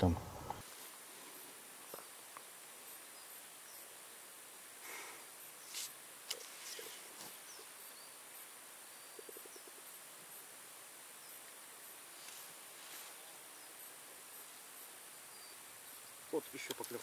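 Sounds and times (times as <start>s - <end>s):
high-pitched insect trill: 0.6s - 17.0s.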